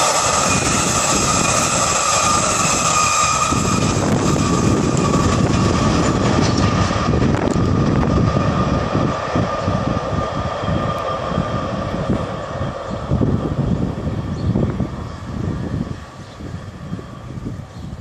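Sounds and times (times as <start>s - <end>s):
train wheels rumbling on rails: 0.0s - 18.0s
wind on microphone: 0.0s - 18.0s.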